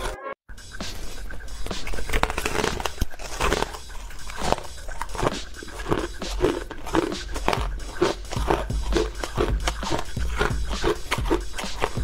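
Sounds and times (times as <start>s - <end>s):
teeth crunching ice cubes: 1.8s - 12.0s.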